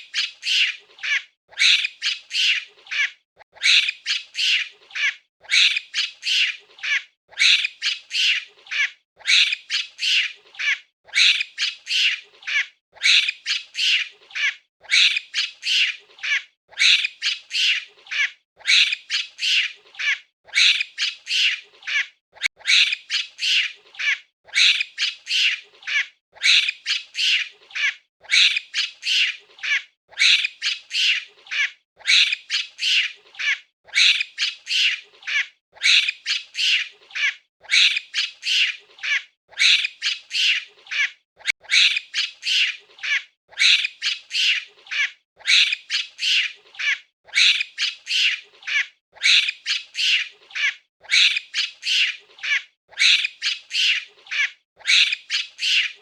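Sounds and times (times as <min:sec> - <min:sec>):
monkey shrill squawking calls: 0:00.0 - 0:56.0.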